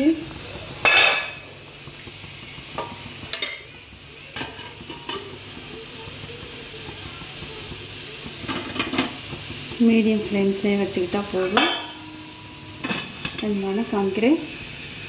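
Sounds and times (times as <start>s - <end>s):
water boiling: 0.0s - 15.0s.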